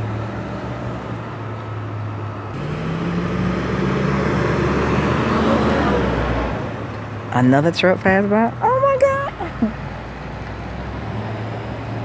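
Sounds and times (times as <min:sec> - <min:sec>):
truck driving past: 0:00.0 - 0:07.7, 0:09.4 - 0:12.0.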